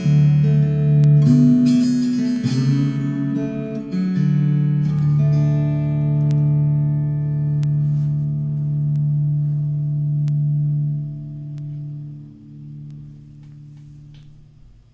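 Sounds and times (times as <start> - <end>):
slide guitar chord ringing: 0.0 - 14.9.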